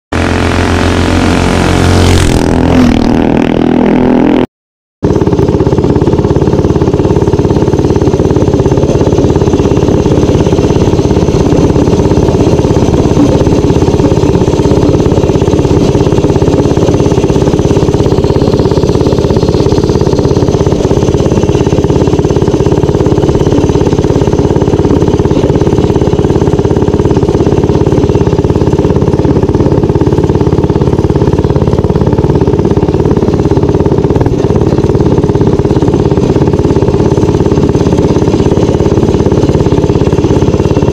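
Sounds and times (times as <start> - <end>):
minibike engine running: 5.1 - 40.9.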